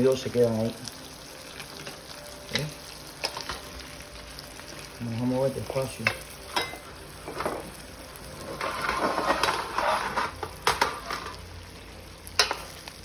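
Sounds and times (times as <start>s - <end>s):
shrimp sizzling in a skillet: 0.0s - 13.0s.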